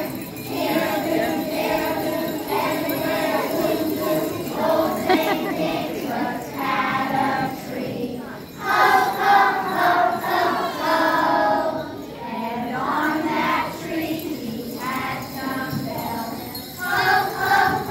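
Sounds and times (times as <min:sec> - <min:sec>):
bells jingling: 0:00.0 - 0:17.9
children singing: 0:00.0 - 0:17.9.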